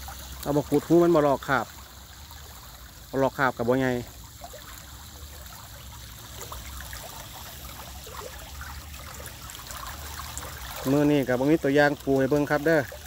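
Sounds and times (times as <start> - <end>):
water rushing through sluice gate: 0.0 - 13.0.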